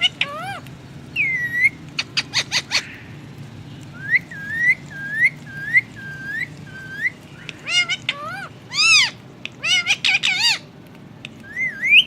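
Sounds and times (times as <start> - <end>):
parakeet whistling: 0.0 - 3.0, 3.9 - 10.6, 11.4 - 12.0
parakeet chirping: 0.0 - 3.2, 3.9 - 10.7, 11.3 - 12.0.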